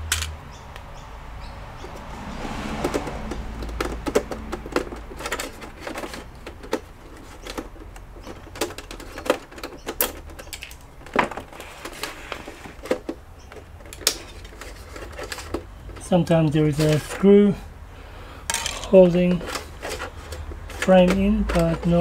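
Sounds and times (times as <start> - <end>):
plastic clips clicking and snapping: 2.8 - 17.2, 18.5 - 22.0.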